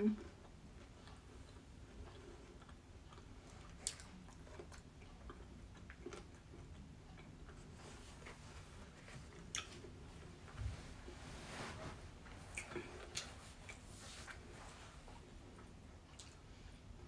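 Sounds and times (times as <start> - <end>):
chewing fried chicken: 0.2 - 10.4, 12.4 - 17.0.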